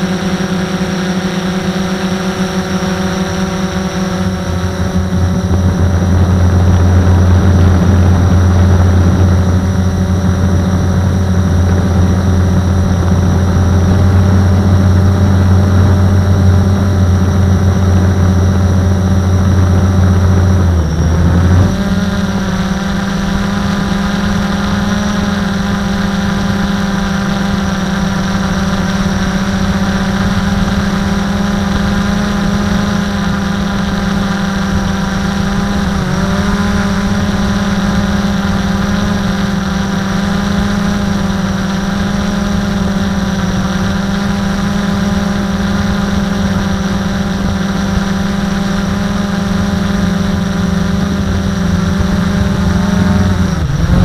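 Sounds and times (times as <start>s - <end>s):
low hum: 0.0s - 54.0s
quadcopter propellers whirring: 0.0s - 54.0s.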